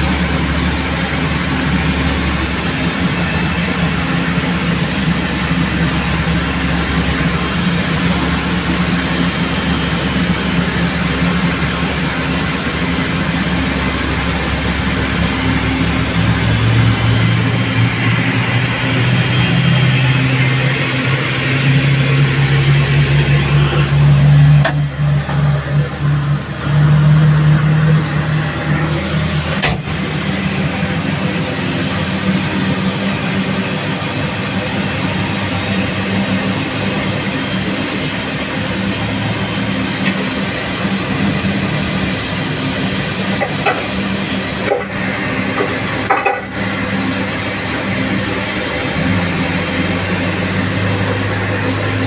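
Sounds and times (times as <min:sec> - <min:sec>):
tug engine running: 0:00.0 - 0:52.0.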